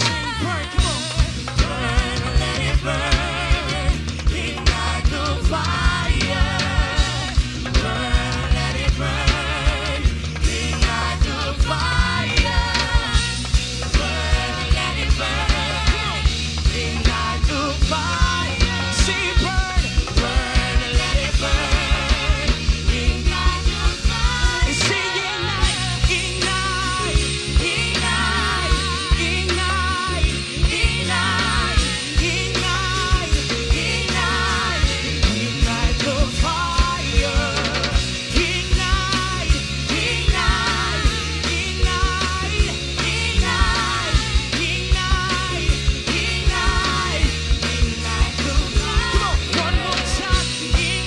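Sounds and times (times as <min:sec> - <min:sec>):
steady drum beat: 0:00.0 - 0:51.0
sustained bass line: 0:00.0 - 0:51.0
worship band playing: 0:00.0 - 0:51.0.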